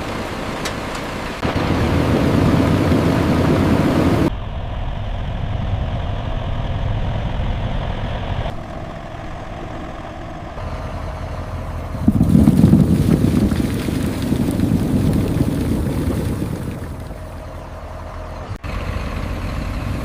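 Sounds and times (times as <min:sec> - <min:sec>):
low engine-like rumble: 0:00.0 - 0:20.0.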